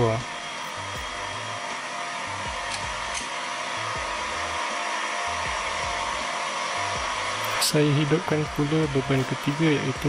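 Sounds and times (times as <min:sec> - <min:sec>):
electric motor whirring: 0:00.0 - 0:10.0.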